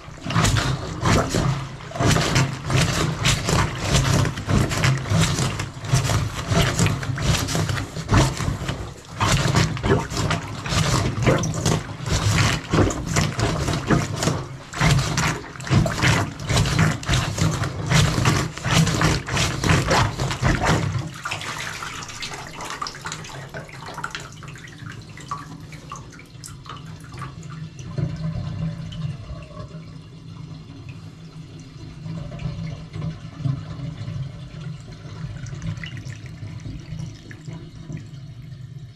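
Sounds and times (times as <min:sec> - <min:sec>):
steady flow of water: 0:00.0 - 0:38.9
water gurgling in drain: 0:00.0 - 0:38.9.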